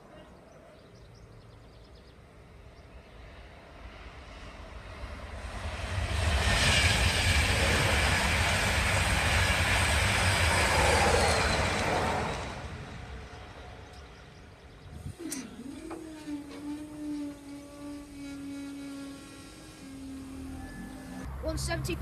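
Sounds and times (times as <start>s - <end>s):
train passing at speed: 2.2s - 15.2s, 17.0s - 22.0s.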